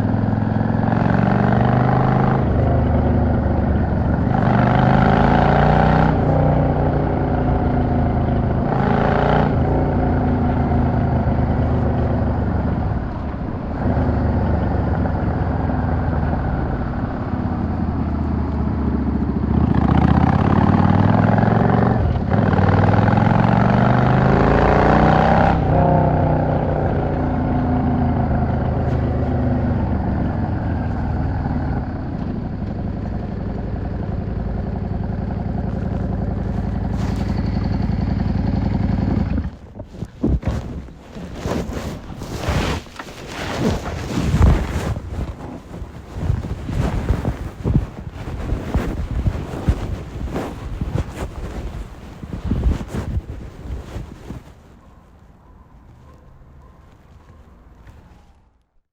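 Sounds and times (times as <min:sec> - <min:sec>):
motorcycle engine accelerating: 0:00.0 - 0:54.7.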